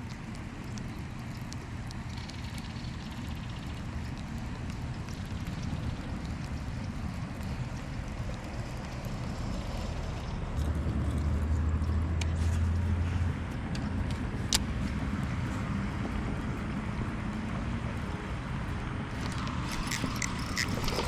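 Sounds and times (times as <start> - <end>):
road traffic rumbling: 0.0 - 21.0.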